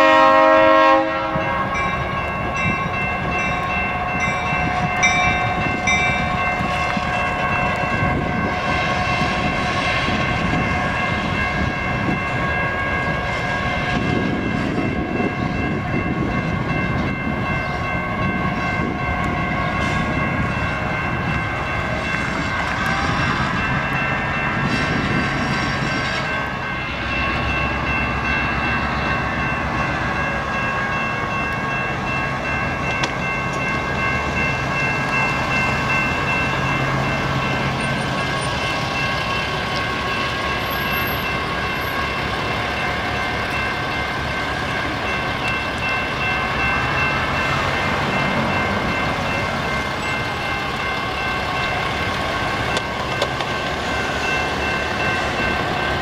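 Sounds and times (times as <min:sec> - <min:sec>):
diesel locomotive engine running: 0:00.0 - 0:56.0
wheels rolling on rails: 0:01.7 - 0:56.0.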